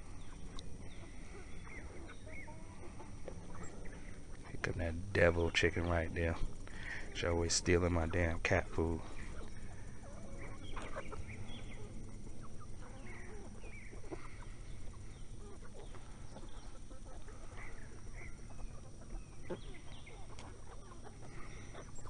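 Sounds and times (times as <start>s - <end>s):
chickens clucking and squawking: 0.0s - 22.0s.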